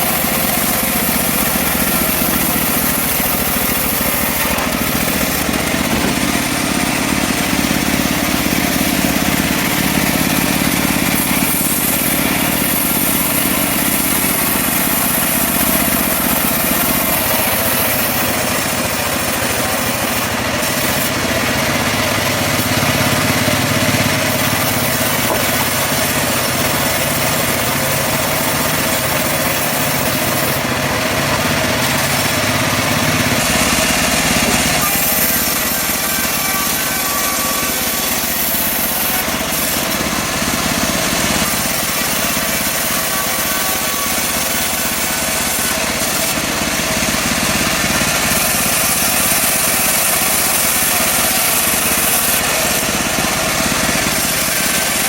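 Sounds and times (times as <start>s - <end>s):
bandsaw mill engine sawing wood: 0.0s - 55.0s.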